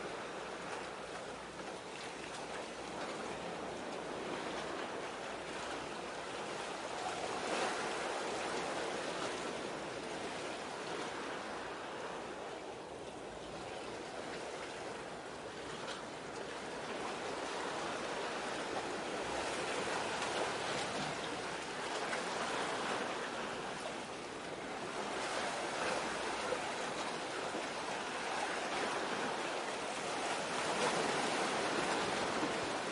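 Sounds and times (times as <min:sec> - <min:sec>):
small waves lapping at shore: 0:00.0 - 0:32.9.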